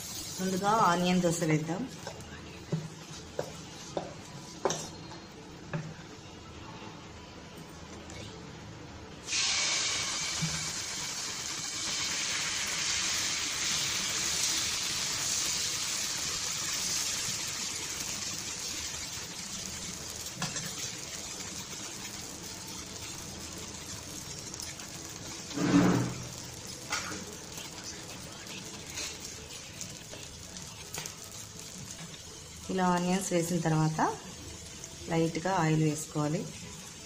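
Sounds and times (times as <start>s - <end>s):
batter sizzling on griddle: 0.0s - 5.0s, 9.2s - 37.0s.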